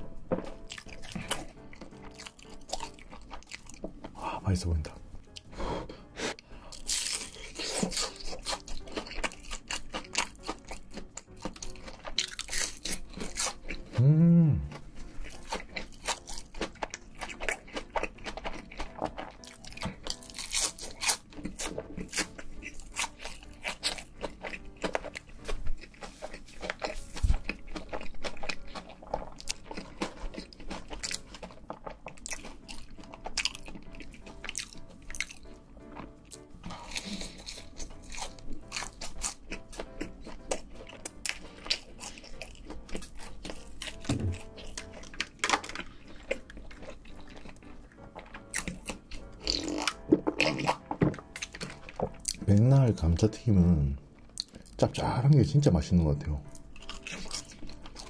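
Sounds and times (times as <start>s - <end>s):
crunching and chewing hash brown: 0.0s - 5.6s, 6.3s - 14.0s, 14.7s - 58.0s.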